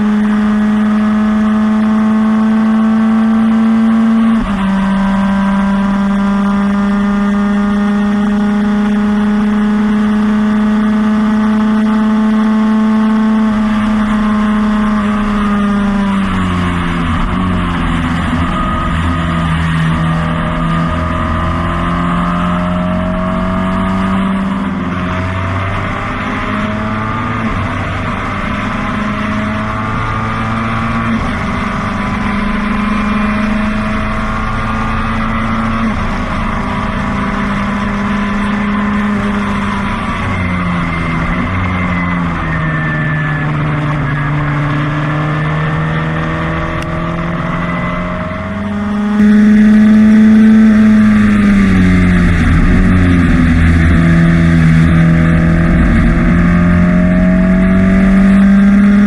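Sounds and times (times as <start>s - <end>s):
racing car engine: 0.0s - 59.0s.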